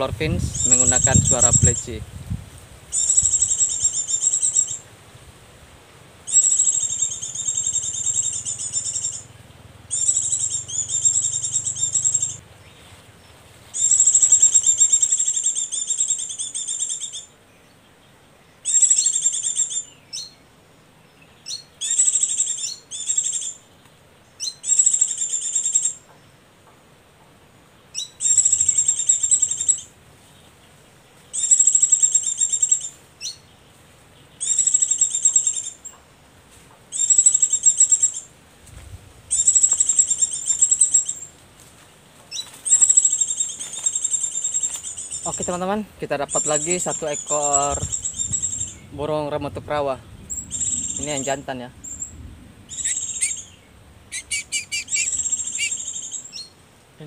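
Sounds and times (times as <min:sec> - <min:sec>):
high rapid bird twittering: 0:00.0 - 0:02.3, 0:02.9 - 0:04.9, 0:06.2 - 0:26.3, 0:27.8 - 0:33.6, 0:34.2 - 0:36.0, 0:36.9 - 0:38.4, 0:39.3 - 0:41.4, 0:42.3 - 0:56.6.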